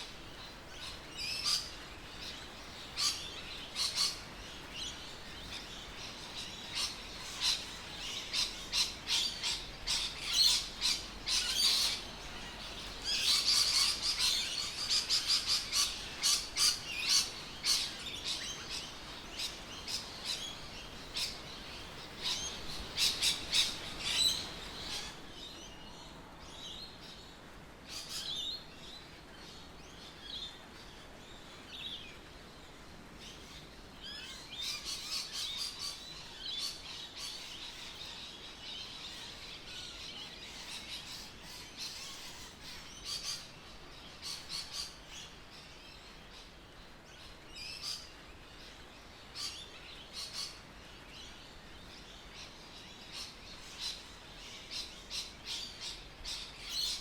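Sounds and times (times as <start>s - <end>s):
birds chirping: 0.0s - 27.2s, 33.3s - 57.0s.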